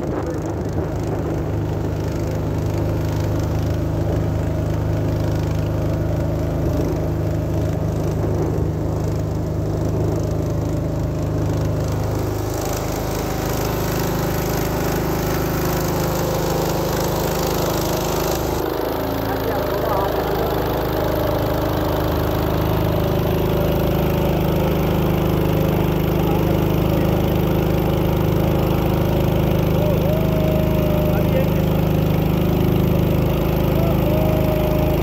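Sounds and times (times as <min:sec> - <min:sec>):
small boat engine running: 0:00.0 - 0:35.0.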